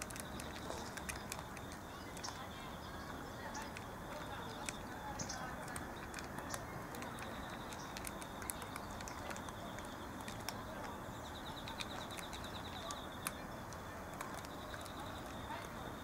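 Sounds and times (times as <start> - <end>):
cats chewing wet food: 0.0 - 16.0
low background noise: 0.0 - 16.0.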